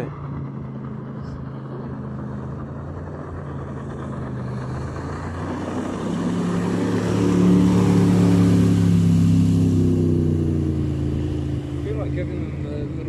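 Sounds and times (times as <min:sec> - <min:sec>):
jet boat engines running: 0:00.0 - 0:13.0
rush of noise: 0:00.0 - 0:13.0.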